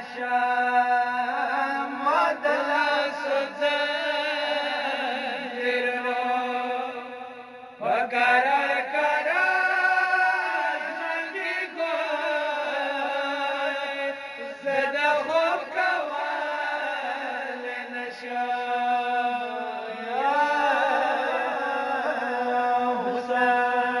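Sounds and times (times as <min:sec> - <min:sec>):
man chanting a lament: 0:00.0 - 0:24.0.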